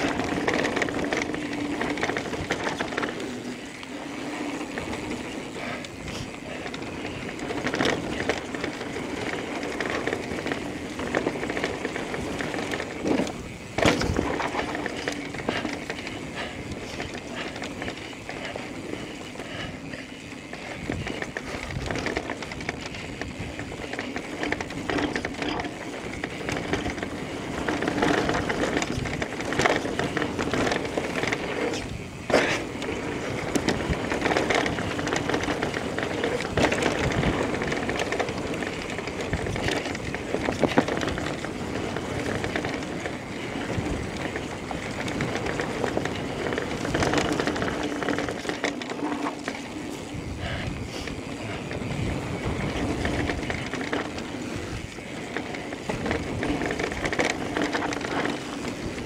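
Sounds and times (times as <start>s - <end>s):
bike rattling and clicking: 0.0s - 59.0s
bike tyres rolling on dirt: 0.0s - 59.0s.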